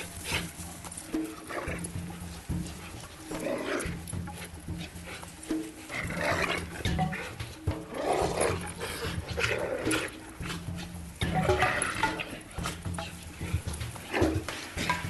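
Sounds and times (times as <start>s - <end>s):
dogs growling and snarling: 0.0s - 15.0s.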